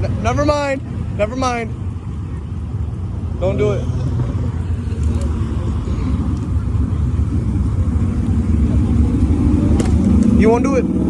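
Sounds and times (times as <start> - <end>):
car engine with deep exhaust: 0.0 - 11.0.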